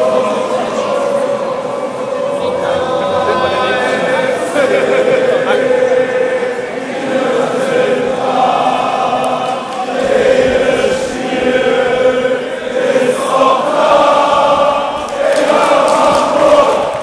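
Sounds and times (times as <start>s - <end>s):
crowd chanting: 0.0s - 17.0s.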